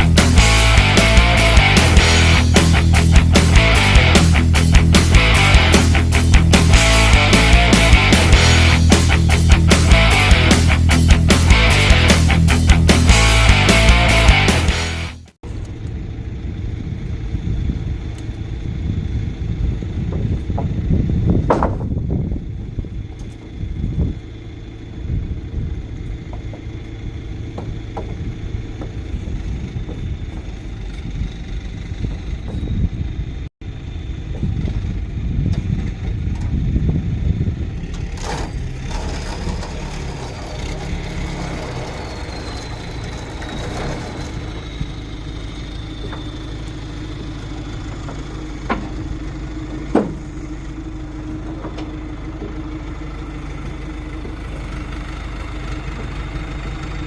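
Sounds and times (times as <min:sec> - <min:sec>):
road rumble: 0:00.0 - 0:57.0
truck engine running: 0:00.0 - 0:57.0.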